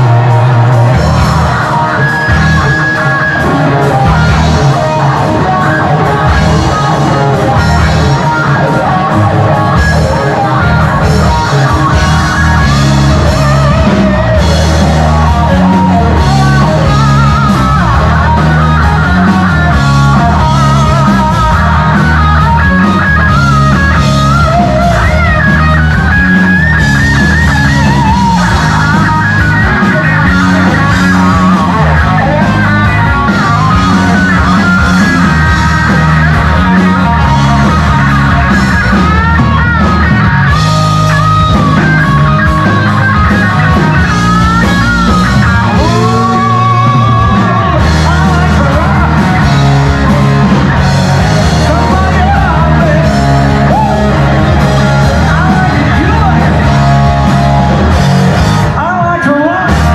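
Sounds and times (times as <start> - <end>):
electric guitars: 0.0 - 59.9
live rock band playing: 0.0 - 59.9.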